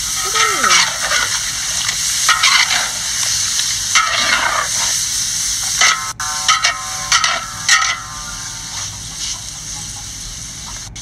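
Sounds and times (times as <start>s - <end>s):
spatula scraping a pan: 0.0s - 10.0s
curry sizzling in a wok: 0.0s - 11.0s.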